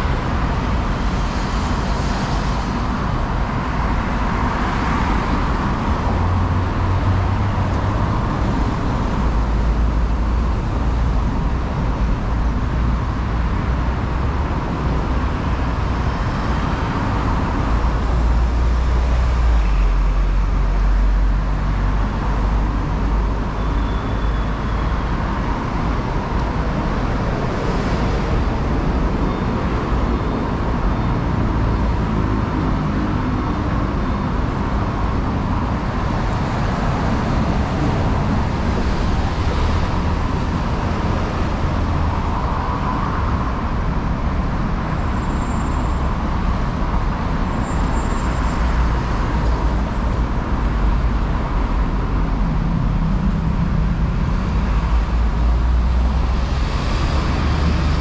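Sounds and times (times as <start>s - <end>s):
low traffic rumble: 0.0s - 58.0s
vehicles passing: 0.0s - 58.0s.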